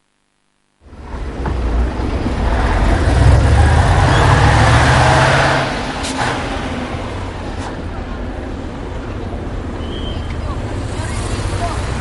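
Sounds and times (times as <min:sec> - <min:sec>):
large vehicle engine rumbling: 0:00.9 - 0:12.0.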